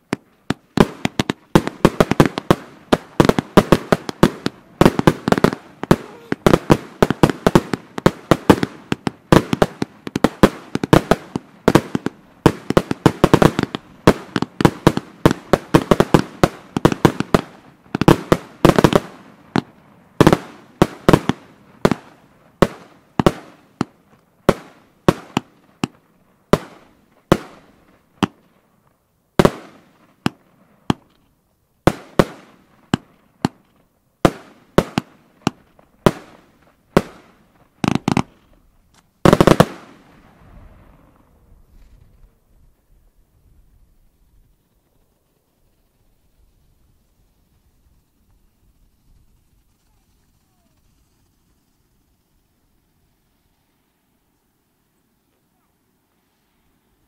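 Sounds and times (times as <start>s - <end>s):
fireworks bangs and crackles: 0.0s - 54.2s.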